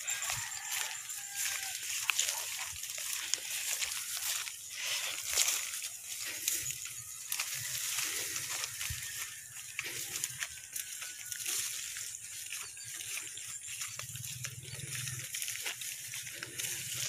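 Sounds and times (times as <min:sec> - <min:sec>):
footsteps on dike path: 0:00.0 - 0:17.0
grass and rice stalks rustling: 0:00.0 - 0:17.0.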